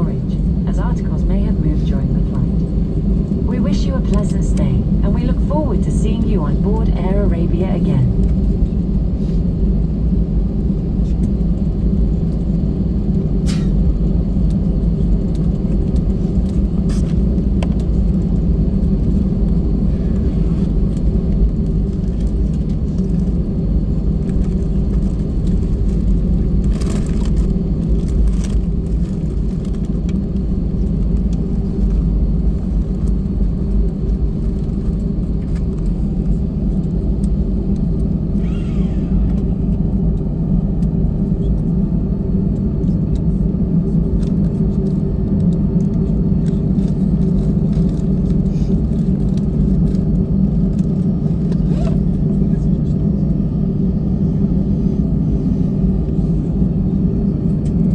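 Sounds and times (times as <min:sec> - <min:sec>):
aircraft engines idling: 0:00.0 - 0:57.9.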